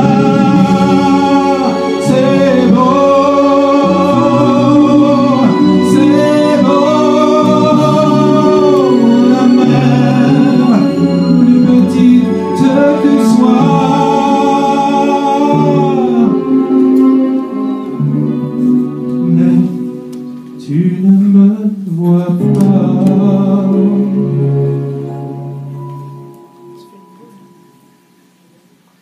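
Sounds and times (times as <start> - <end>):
man singing into a microphone: 0.0 - 25.1
instrumental accompaniment: 0.0 - 29.0.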